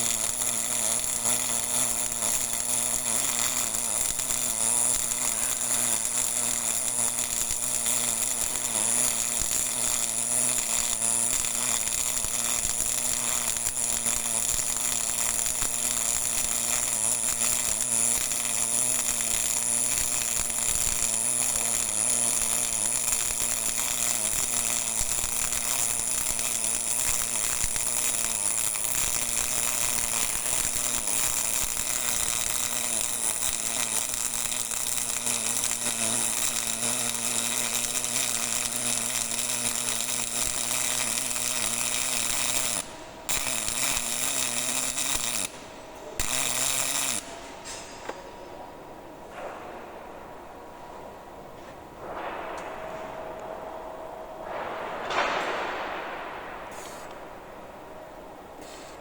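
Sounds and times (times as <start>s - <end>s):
welding arc crackling buzz: 0.0s - 59.0s.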